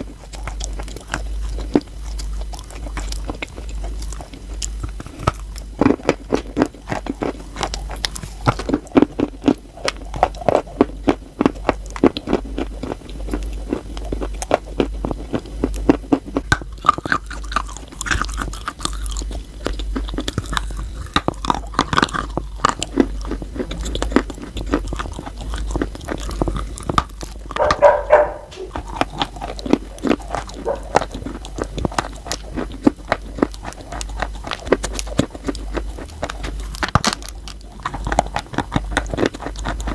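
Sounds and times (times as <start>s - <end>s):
crunchy chewing of chalk: 0.0s - 39.9s.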